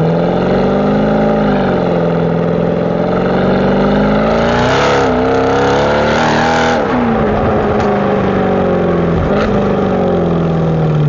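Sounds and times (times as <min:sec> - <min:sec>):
car engine running under load: 0:00.0 - 0:11.0.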